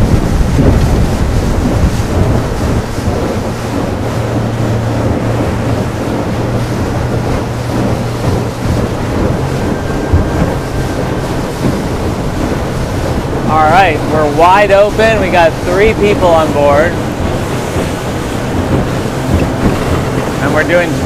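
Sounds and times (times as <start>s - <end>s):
water slapping boat hull: 0.0s - 21.0s
wind buffeting microphone: 0.0s - 21.0s.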